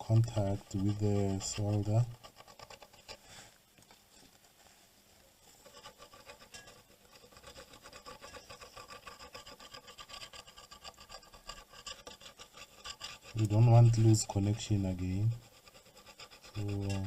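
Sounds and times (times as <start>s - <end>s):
tool scraping circuit board: 0.0s - 3.2s, 5.6s - 17.0s.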